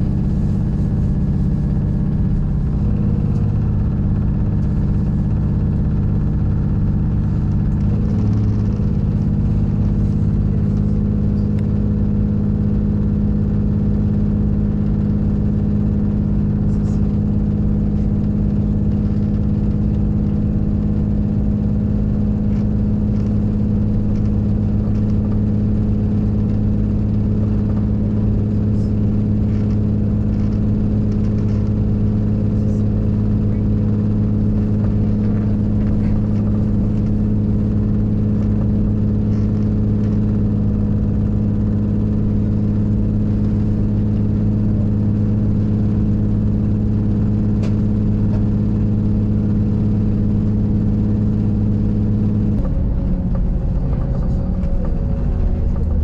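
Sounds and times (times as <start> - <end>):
train engine hum and running noise: 0.0 - 56.0.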